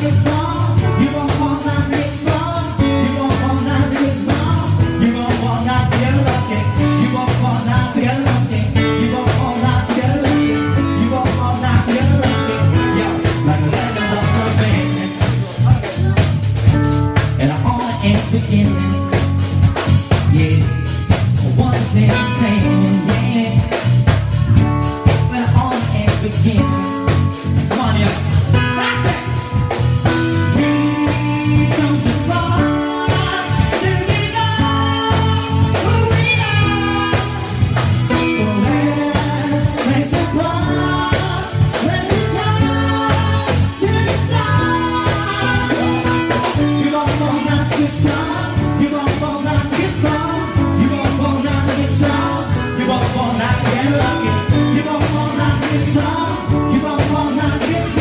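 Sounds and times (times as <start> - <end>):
bass: 0.0 - 58.0
drum kit beat: 0.0 - 58.0
keyboards: 0.0 - 58.0
person singing into a microphone: 0.0 - 58.0.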